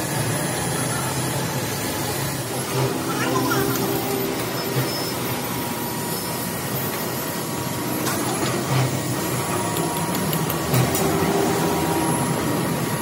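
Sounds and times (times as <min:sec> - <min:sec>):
workshop machinery noise: 0:00.0 - 0:13.0.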